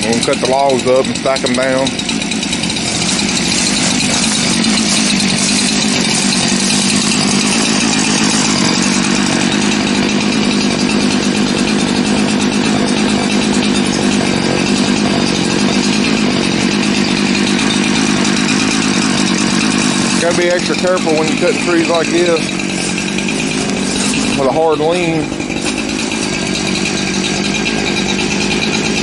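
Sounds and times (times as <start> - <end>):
chainsaw running steadily: 0.0 - 29.0.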